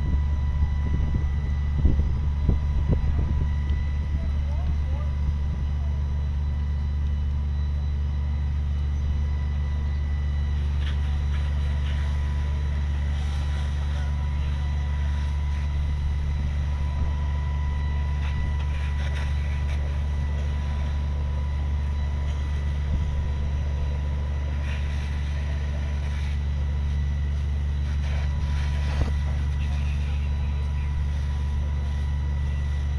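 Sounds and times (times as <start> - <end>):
diesel engine droning: 0.0 - 32.9
faint high whine: 0.0 - 32.9.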